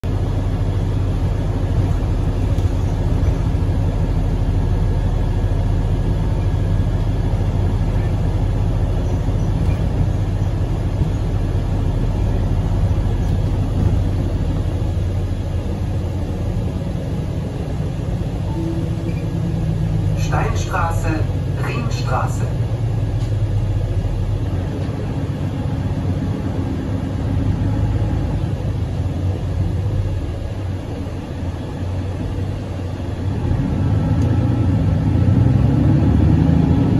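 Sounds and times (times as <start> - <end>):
vehicle rumble and hum: 0.0 - 36.9.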